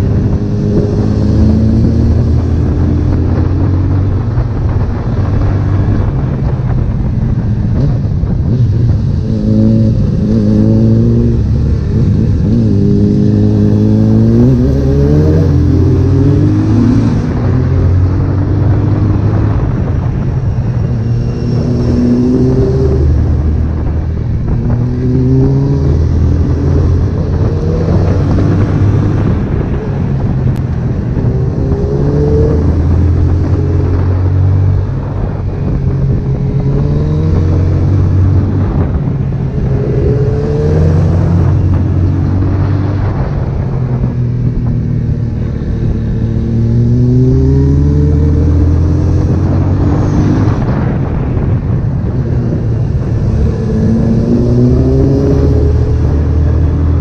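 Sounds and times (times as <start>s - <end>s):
motorcycle engine revving: 0.0s - 57.0s
wind and road rumble: 0.0s - 57.0s.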